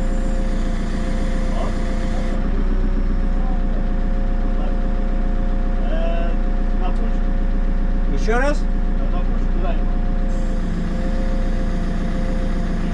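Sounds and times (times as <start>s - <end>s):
diesel engine droning with whine: 0.0s - 12.9s.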